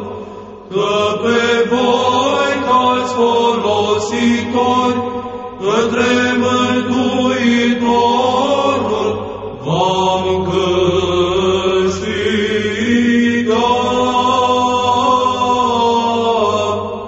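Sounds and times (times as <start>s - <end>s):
steady low drone: 0.0s - 17.0s
voices chanting long notes: 0.0s - 17.0s.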